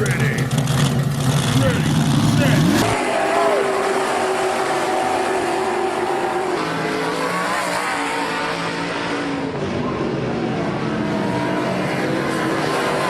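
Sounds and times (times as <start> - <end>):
race car engines: 0.0 - 13.0.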